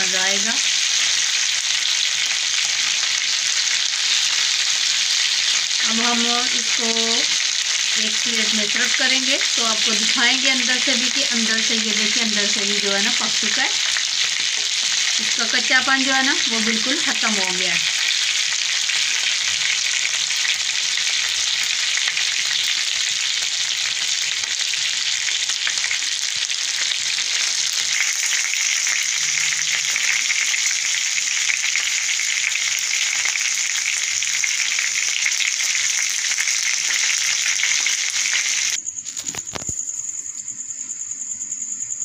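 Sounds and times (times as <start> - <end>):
chicken sizzling in oil: 0.0 - 39.7.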